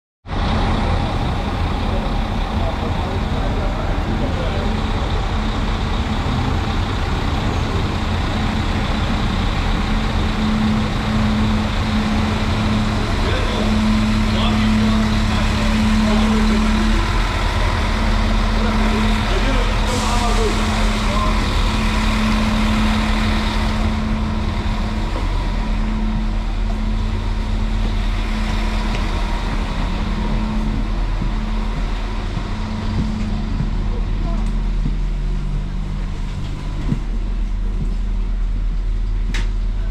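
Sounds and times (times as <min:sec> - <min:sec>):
railcar engine idling: 0:00.2 - 0:39.9
train rumble: 0:00.2 - 0:39.9
constant hum: 0:00.4 - 0:39.9.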